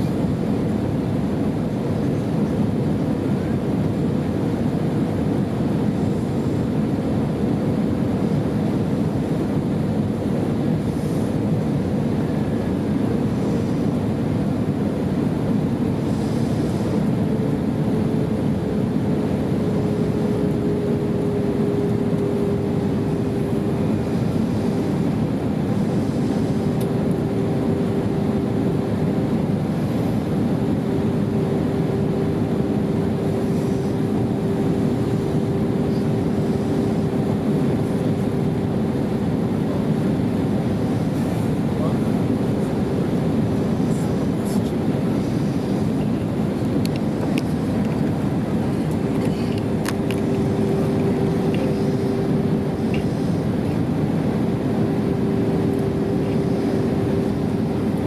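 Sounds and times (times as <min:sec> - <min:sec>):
aircraft cabin airflow and engines: 0:00.0 - 0:58.0.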